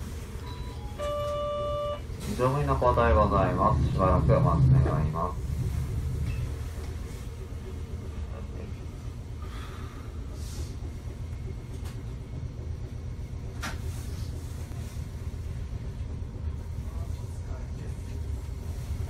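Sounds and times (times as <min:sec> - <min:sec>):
streetcar low rumble: 0:00.0 - 0:19.0.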